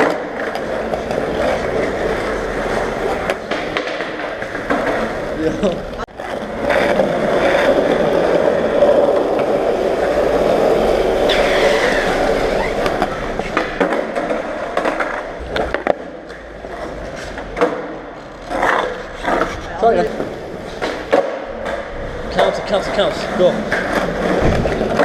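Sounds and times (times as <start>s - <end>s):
skateboard tail clacking: 0.0s - 25.0s
skateboard wheels rolling: 0.0s - 25.0s.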